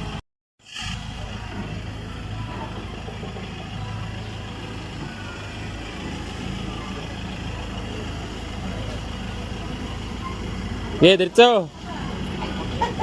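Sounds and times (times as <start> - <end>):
car engine running: 0.8 - 13.0.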